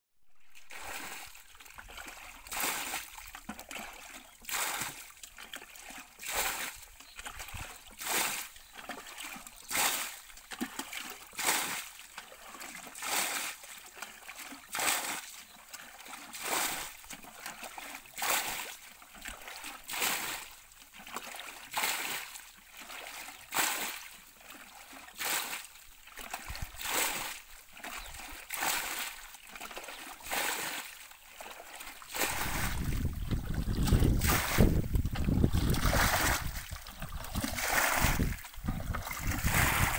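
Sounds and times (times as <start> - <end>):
rhythmic water splashing: 0.3 - 39.9
continuous wash of water: 0.6 - 39.9.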